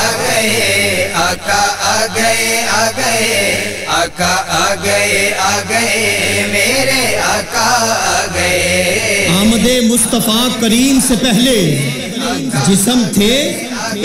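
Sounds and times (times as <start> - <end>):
voices chanting a melodic line: 0.0 - 3.9, 4.8 - 14.0.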